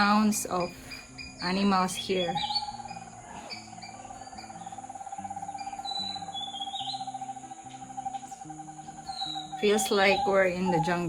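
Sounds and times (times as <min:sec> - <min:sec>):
animal pulsing trill: 0:00.0 - 0:11.0
high bird chirps: 0:00.0 - 0:11.0.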